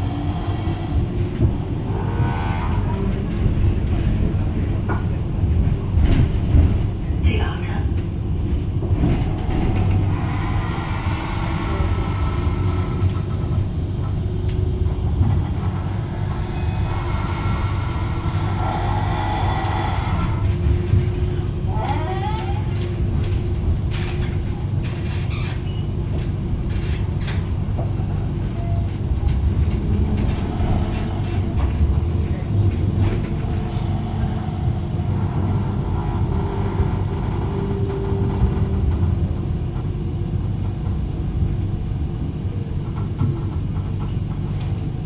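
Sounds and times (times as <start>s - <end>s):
tram wheels rumbling on rails: 0.0s - 45.0s.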